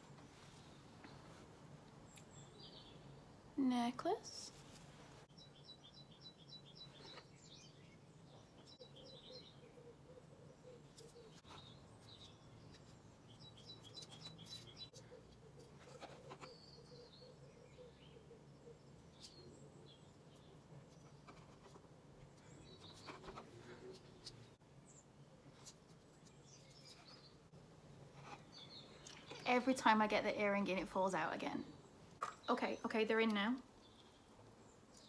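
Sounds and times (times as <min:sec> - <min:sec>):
faint songbird chirping: 0:00.0 - 0:35.0.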